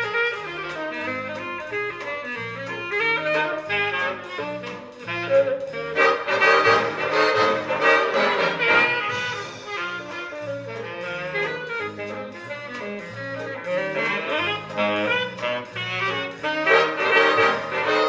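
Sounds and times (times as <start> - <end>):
swing jazz with brass and saxophone: 0.0 - 18.0.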